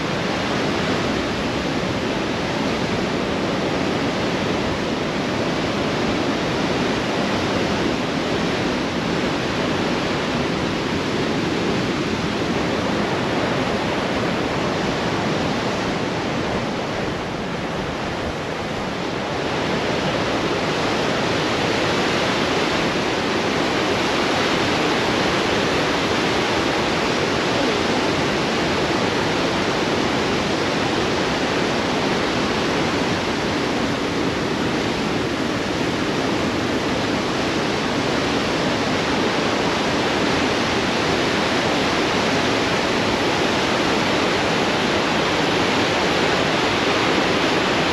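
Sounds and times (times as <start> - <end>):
whitewater rushing over falls: 0.0 - 47.9.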